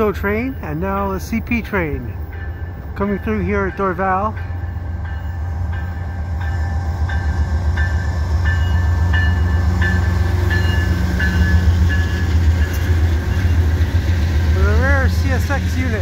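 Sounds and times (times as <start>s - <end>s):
locomotive engines rumbling: 0.0s - 16.0s.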